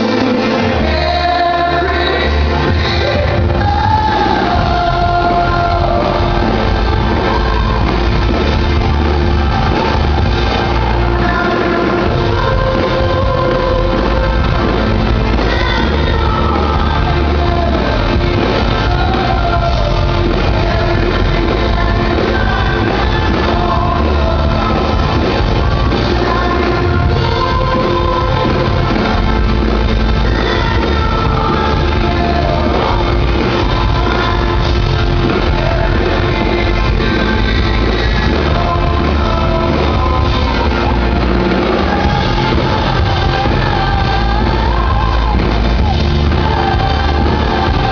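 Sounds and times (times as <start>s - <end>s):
live pop-rock band: 0.0s - 47.9s
man singing lead: 0.0s - 47.9s.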